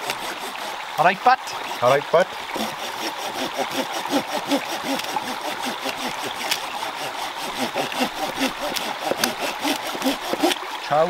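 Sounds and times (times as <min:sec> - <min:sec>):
stream gurgling over rocks: 0:00.0 - 0:11.0.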